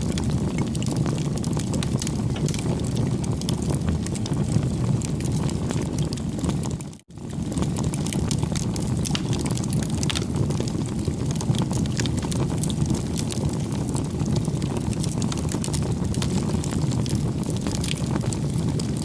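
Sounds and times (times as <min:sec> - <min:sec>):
flames rushing: 0:00.0 - 0:19.0
wood crackling and popping: 0:00.0 - 0:19.0.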